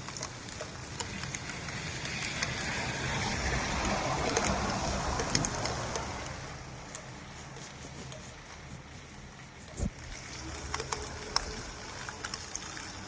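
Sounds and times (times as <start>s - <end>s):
steady rainfall: 0.0s - 13.0s
tyres hissing on wet road: 0.0s - 13.0s.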